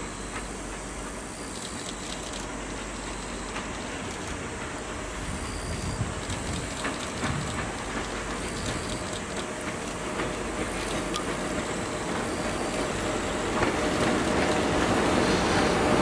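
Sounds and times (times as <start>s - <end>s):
electric train rushing: 0.0s - 16.0s.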